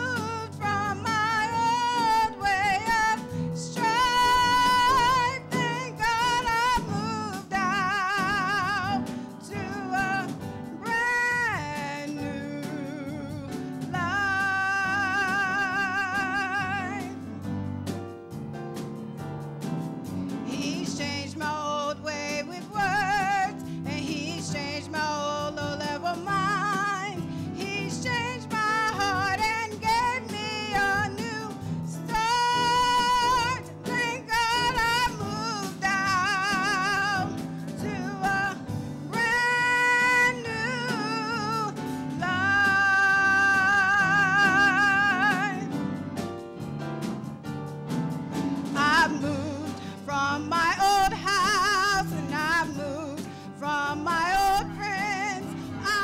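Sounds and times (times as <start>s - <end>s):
woman singing gospel: 0.0s - 17.4s, 20.4s - 45.8s, 48.7s - 56.0s
instrumental accompaniment: 0.0s - 56.0s.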